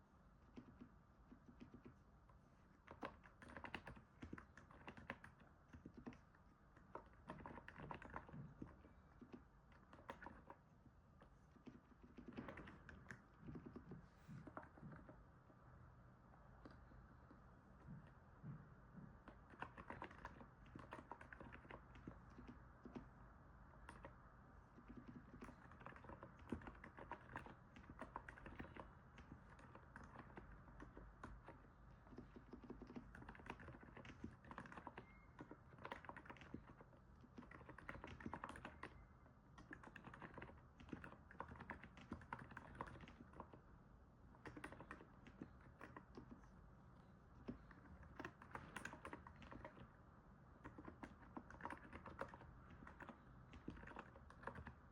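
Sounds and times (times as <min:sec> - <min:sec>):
soft keyboard typing: 0:00.0 - 0:54.9.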